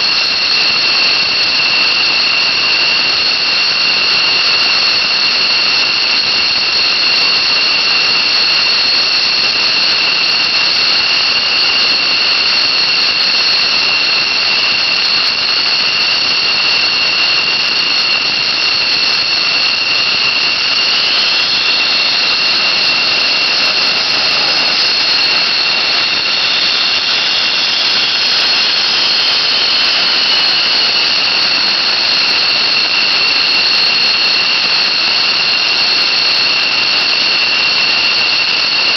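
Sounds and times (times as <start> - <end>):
jet engine running: 0.0 - 38.8
high-pitched engine whine: 0.0 - 38.9.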